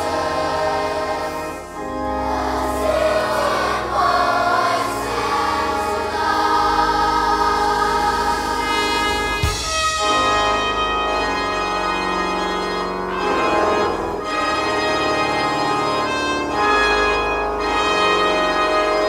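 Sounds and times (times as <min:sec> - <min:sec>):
pipe organ chords: 0:00.0 - 0:19.0.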